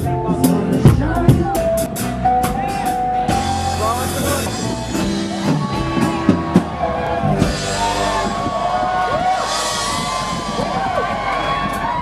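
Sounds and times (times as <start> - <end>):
drums: 0.0 - 12.0
live rock band playing: 0.0 - 12.0.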